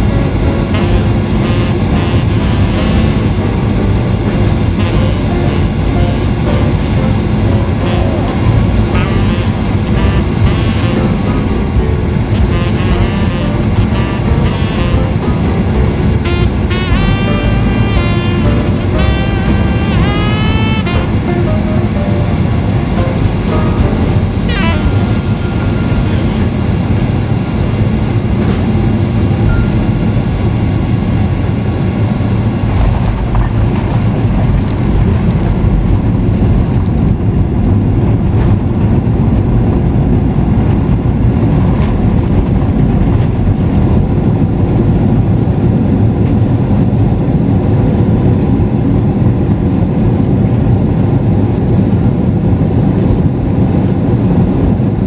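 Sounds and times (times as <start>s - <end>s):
airplane cabin rumble while taxiing: 0.0s - 55.0s.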